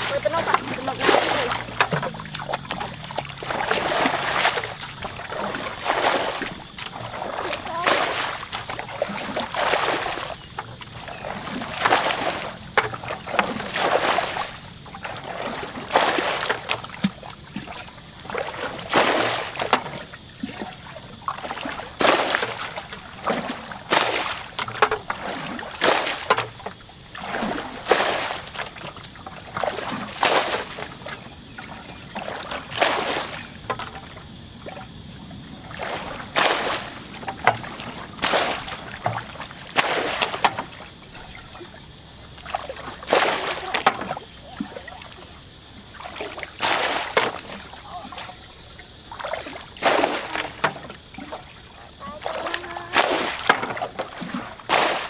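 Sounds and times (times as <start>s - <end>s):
bucket splashing water: 0.0s - 55.0s.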